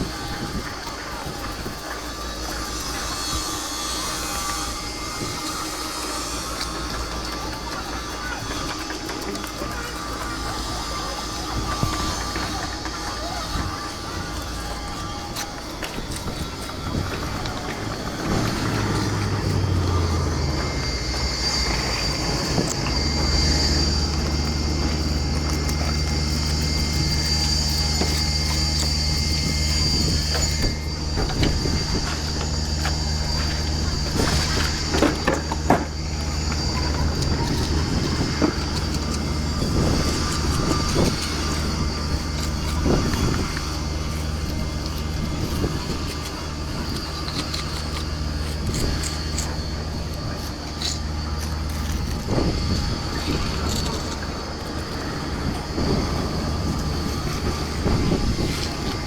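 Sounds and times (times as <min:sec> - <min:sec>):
engine humming: 0:00.0 - 0:59.0
high whine: 0:00.0 - 0:59.0.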